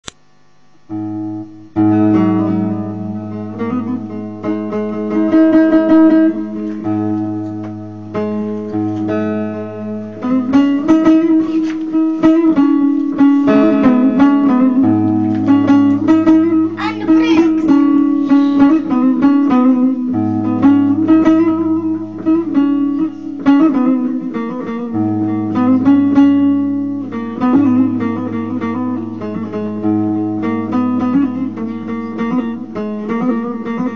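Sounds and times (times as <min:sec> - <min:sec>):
plucked lute melody: 0:00.9 - 0:33.9.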